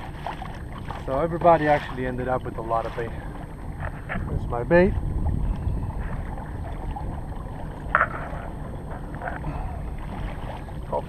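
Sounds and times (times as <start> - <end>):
water sloshing against kayak: 0.0 - 11.0
wind rumble on microphone: 0.0 - 11.0.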